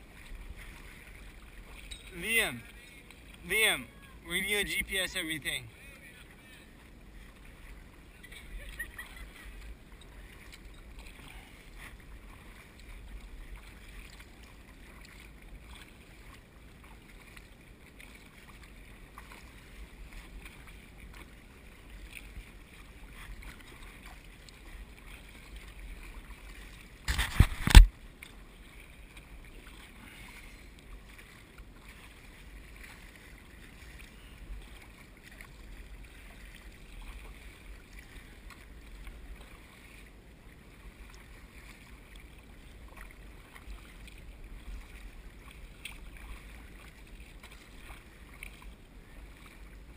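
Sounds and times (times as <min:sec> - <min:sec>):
paddle strokes: 0:00.0 - 0:49.9
water splashing and lapping: 0:00.0 - 0:49.9.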